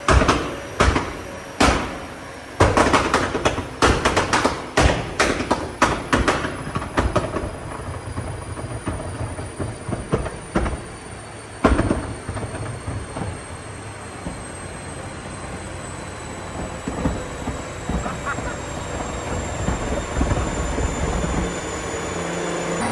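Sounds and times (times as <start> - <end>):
exhaust bangs and pops: 0.0 - 15.7, 16.3 - 21.8
low engine rumble: 0.6 - 22.9.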